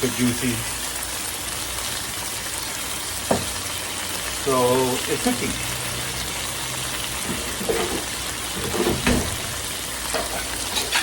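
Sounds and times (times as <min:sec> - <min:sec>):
chicken sizzling in a frying pan: 0:00.0 - 0:11.0
crackles of frying fat: 0:00.0 - 0:11.0.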